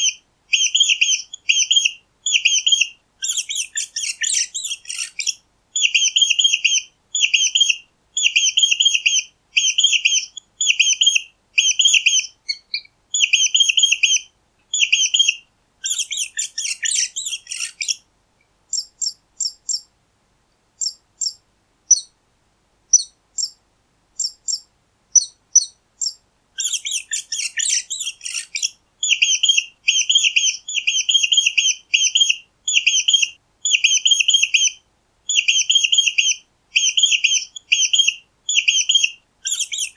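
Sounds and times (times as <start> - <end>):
mice squeaking: 0.0 - 14.2, 14.8 - 18.0, 18.7 - 19.9, 24.2 - 39.9.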